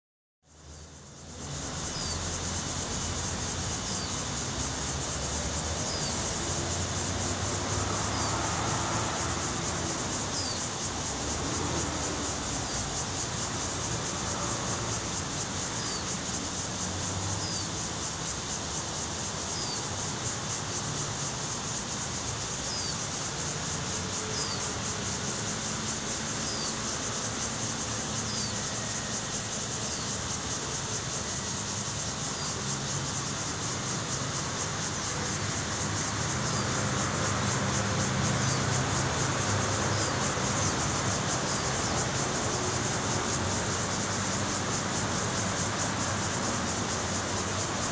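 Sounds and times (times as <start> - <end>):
insects buzzing chorus: 0.5 - 47.9.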